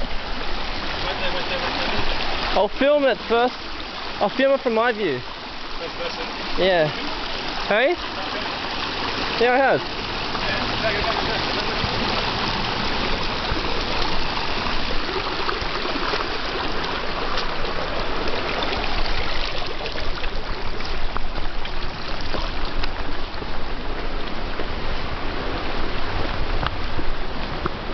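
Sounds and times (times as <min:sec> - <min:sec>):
stream rushing over rocks: 0:00.0 - 0:27.9.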